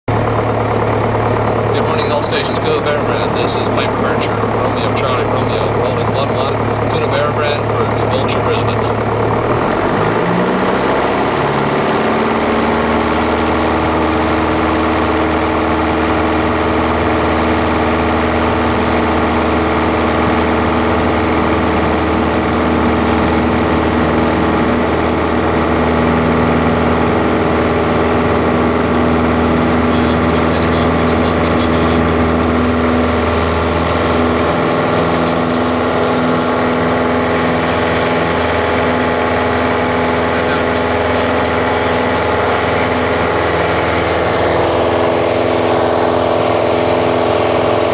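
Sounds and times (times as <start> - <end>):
airplane engine and propeller: 0.1 - 47.9.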